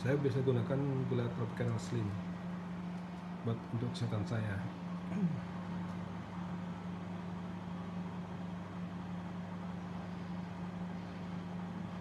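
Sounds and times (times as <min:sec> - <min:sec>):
fan whirring: 0:00.0 - 0:12.0
microwave oven humming: 0:00.0 - 0:12.0.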